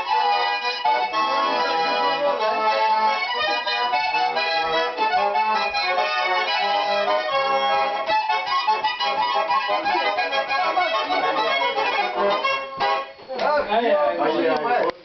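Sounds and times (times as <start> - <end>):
button accordion playing a tune: 0.0 - 13.3.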